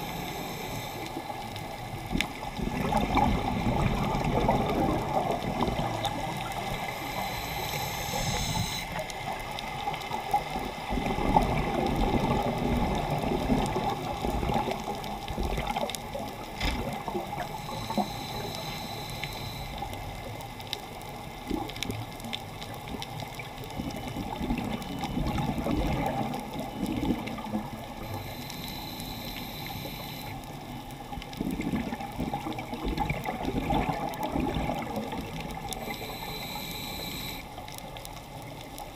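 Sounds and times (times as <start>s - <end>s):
diver regulator bubbling and hiss: 0.0s - 22.0s, 22.8s - 38.9s
steady underwater wash: 0.0s - 38.9s.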